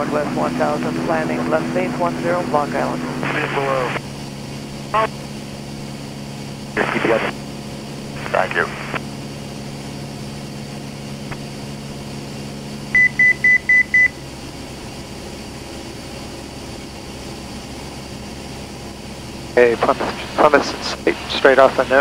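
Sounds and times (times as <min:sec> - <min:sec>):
airplane engine and propeller drone: 0:00.0 - 0:22.0.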